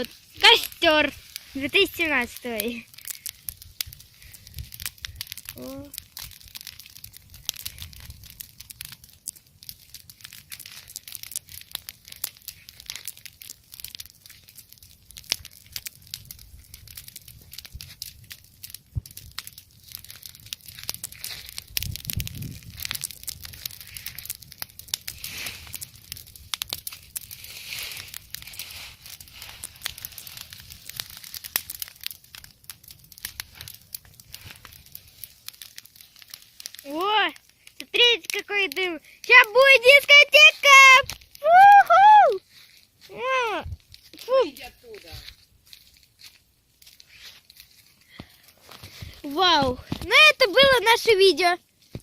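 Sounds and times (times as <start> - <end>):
leaf bonfire crackling: 0.0 - 52.0.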